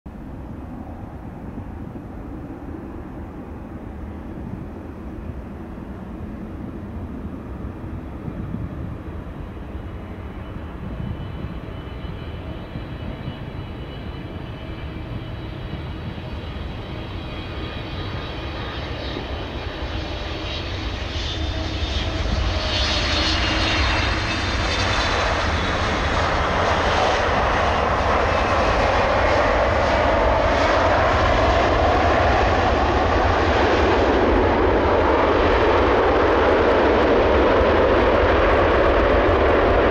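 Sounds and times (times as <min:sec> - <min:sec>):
jet airliner landing: 0:00.1 - 0:39.9.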